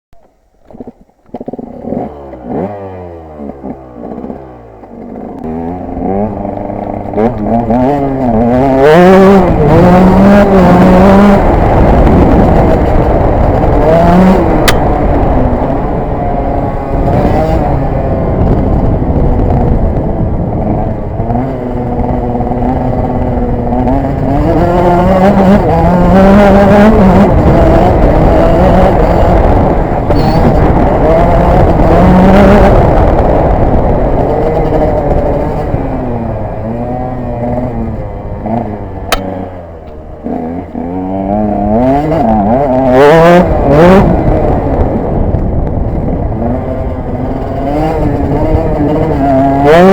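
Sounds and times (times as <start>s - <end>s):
motorcycle engine revving hard: 0.7s - 49.9s.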